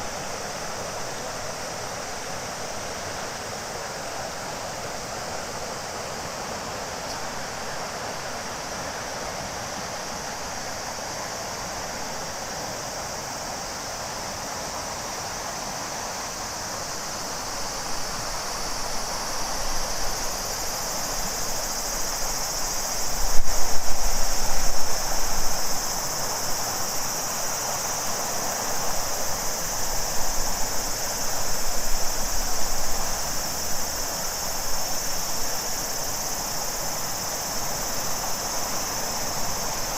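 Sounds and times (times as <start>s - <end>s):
cicadas buzzing: 0.0s - 39.9s
river water flowing: 0.0s - 39.9s.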